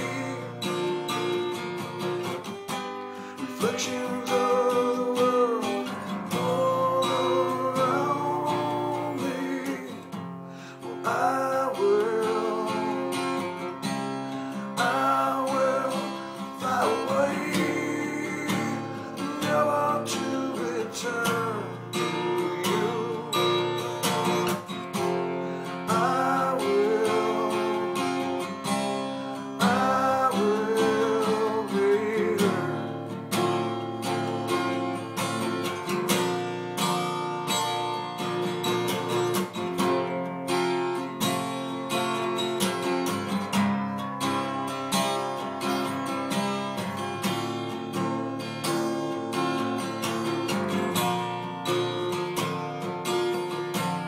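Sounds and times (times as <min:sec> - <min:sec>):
acoustic guitar strummed: 0:00.0 - 0:54.0.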